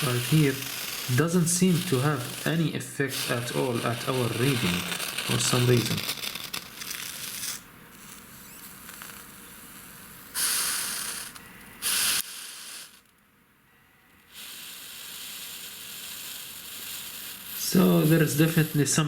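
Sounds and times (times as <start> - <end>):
soldering iron tip hissing: 0.0 - 13.1, 14.3 - 19.0.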